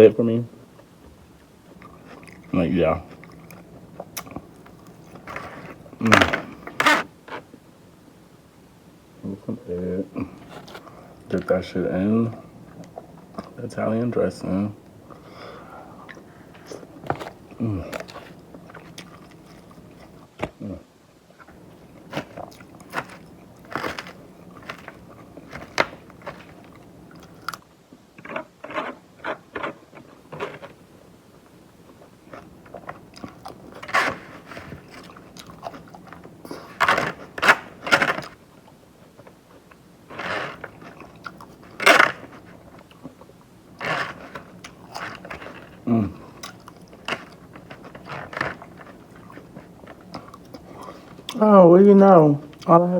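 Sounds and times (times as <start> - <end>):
chewing and crunching food: 0.7 - 7.6, 9.2 - 20.6, 21.4 - 51.5.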